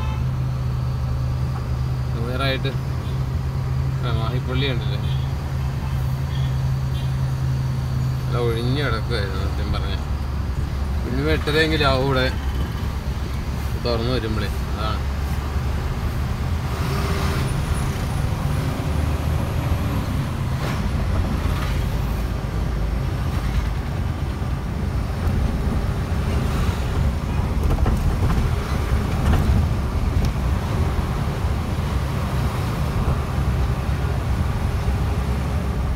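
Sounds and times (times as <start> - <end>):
road noise: 0.0 - 35.9
truck engine rumble: 0.0 - 35.9.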